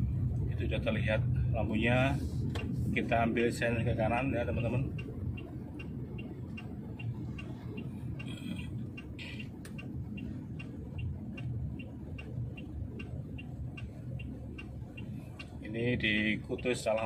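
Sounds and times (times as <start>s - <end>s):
car driving rumble: 0.0s - 17.0s
turn signal ticking: 0.0s - 17.0s.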